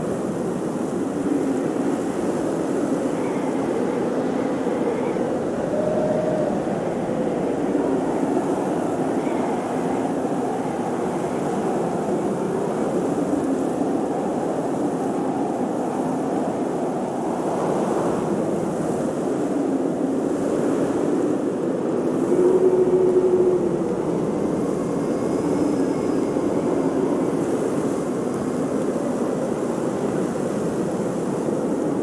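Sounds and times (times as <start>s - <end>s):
strong whistling wind: 0.0s - 32.0s.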